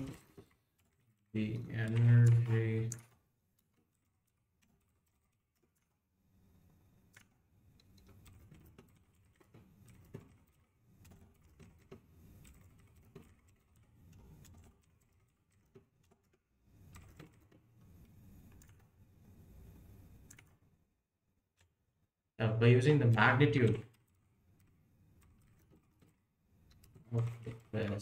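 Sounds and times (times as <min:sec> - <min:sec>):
faint typing on keyboard: 0:00.0 - 0:21.8, 0:22.9 - 0:28.0.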